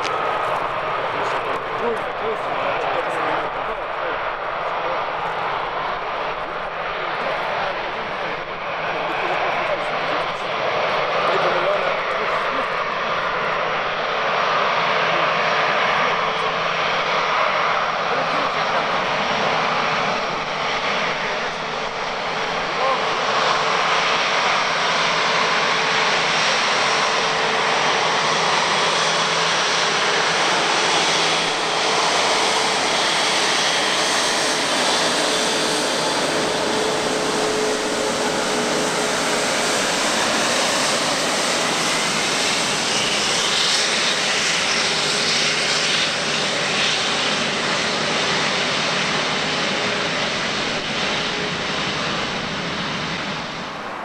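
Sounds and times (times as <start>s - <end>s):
jet engines at taxi thrust: 0.0s - 54.0s.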